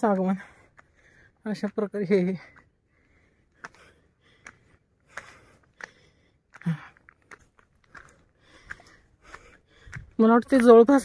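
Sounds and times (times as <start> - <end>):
footsteps crunching on dirt trail: 0.0 - 11.0.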